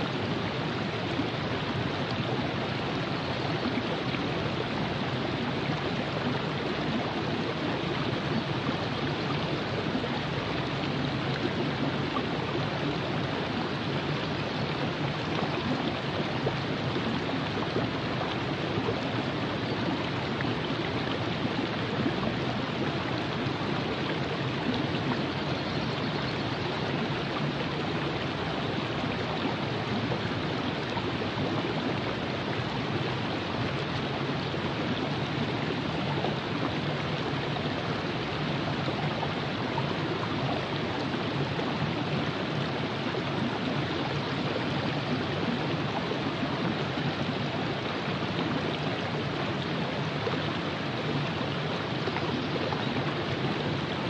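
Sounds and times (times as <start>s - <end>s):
river water rushing: 0.0s - 25.6s, 26.3s - 54.0s.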